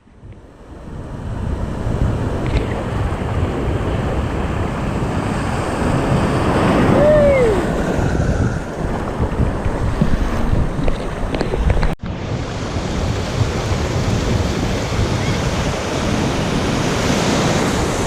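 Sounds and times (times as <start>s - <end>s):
rushing water and waves: 0.0s - 18.0s
wind buffeting microphone: 0.0s - 18.0s.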